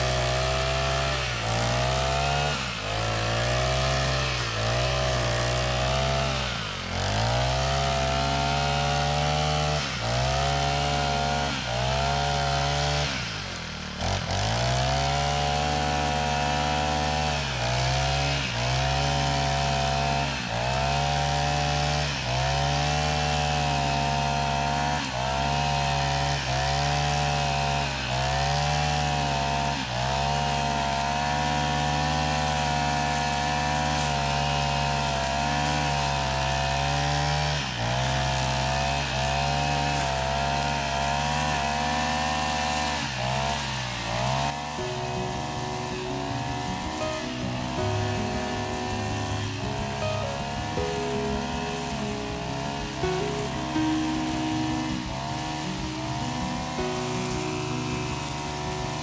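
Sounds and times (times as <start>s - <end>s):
small petrol engine under load: 0.0s - 59.0s.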